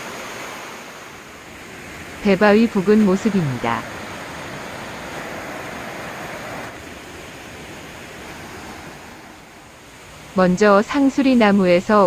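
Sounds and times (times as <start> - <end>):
stream water rushing over rocks: 0.0 - 11.8.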